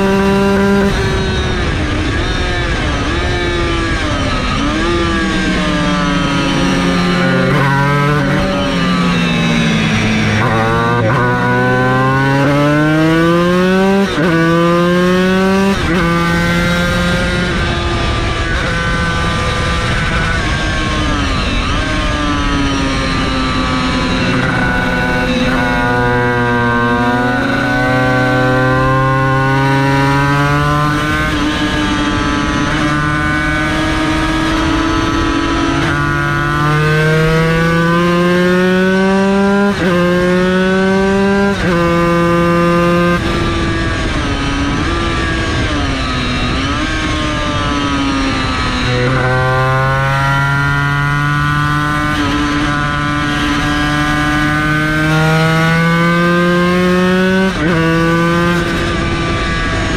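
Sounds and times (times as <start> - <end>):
racing engine revving: 0.0 - 59.9.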